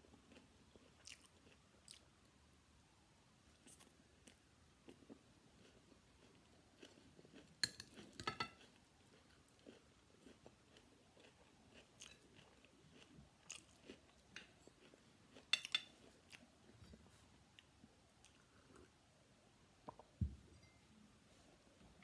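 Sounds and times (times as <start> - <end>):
person chewing quietly: 0.0 - 2.3, 3.5 - 19.1.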